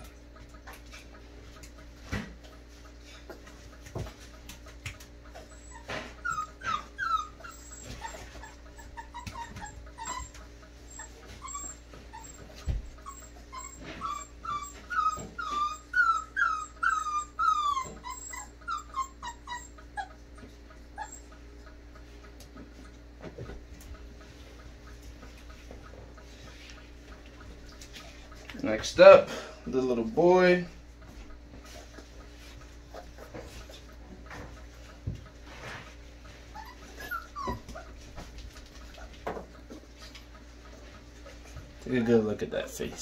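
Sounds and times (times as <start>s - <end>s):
puppies whimpering: 3.0s - 30.6s, 31.2s - 43.0s.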